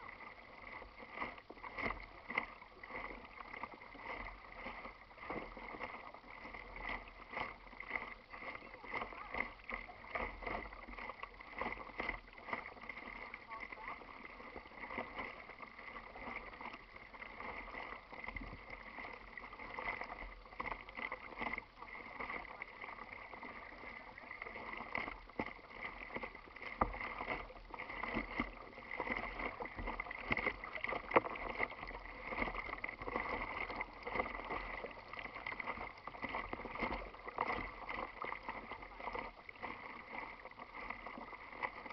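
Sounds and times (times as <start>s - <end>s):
water lapping against kayak hull: 0.0s - 41.9s.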